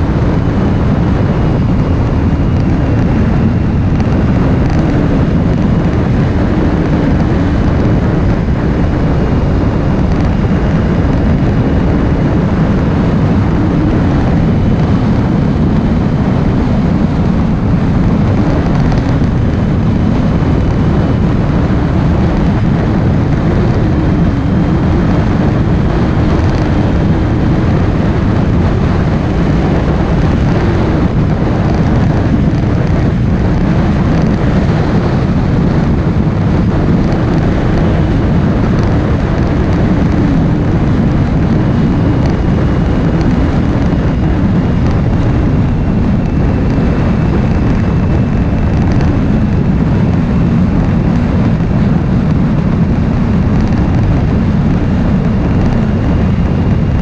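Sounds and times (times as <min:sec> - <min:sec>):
motorcycle engine running: 0:00.0 - 0:57.0
road noise: 0:00.0 - 0:57.0
wind rushing: 0:00.0 - 0:57.0.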